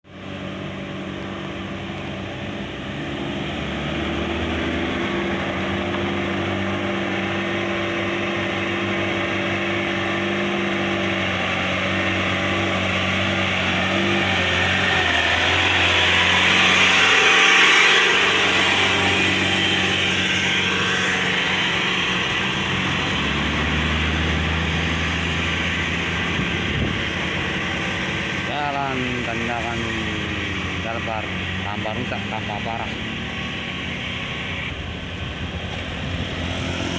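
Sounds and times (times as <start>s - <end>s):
diesel truck engine labouring: 0.0s - 36.9s.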